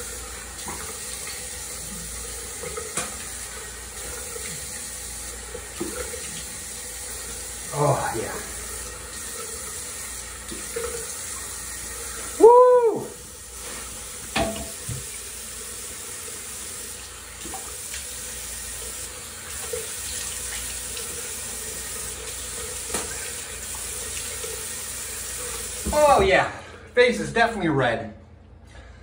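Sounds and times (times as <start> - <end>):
sink tap running: 0.0 - 26.4.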